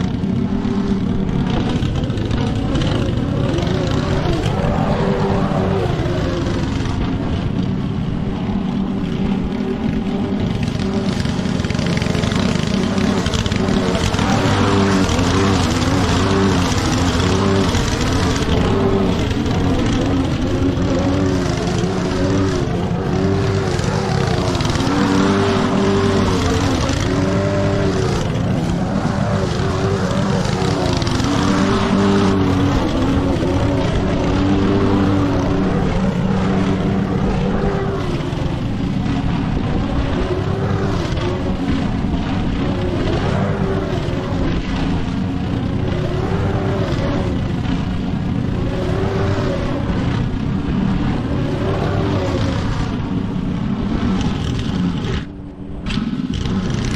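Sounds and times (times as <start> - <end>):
lawn mower engine running: 0.0 - 56.9.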